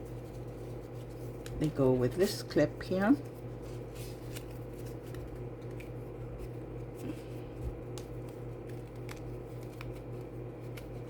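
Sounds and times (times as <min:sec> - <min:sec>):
paper rustling: 0:00.0 - 0:11.0
steady low hum: 0:00.0 - 0:11.0.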